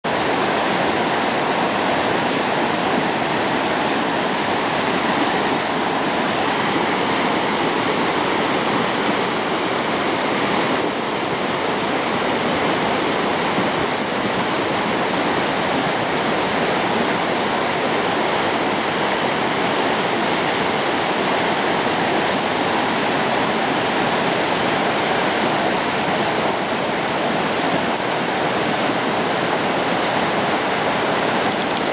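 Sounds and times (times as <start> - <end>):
river rushing: 0.0 - 31.9.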